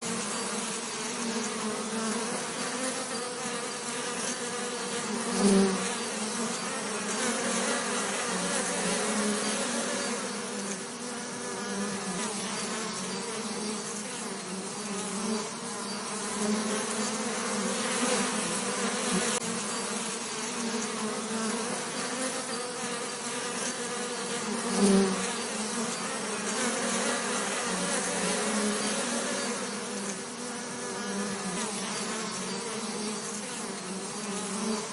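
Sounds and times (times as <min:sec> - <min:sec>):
bees buzzing: 0:00.0 - 0:34.9.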